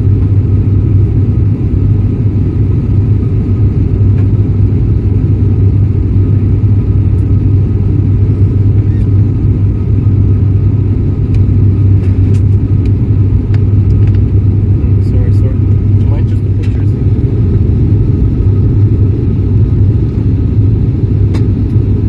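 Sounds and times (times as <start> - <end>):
turboprop cabin drone: 0.0 - 22.0.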